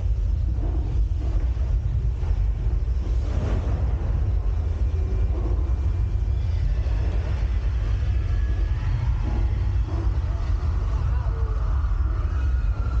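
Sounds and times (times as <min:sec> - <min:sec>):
deep rumbling shaking noise: 0:00.0 - 0:13.0.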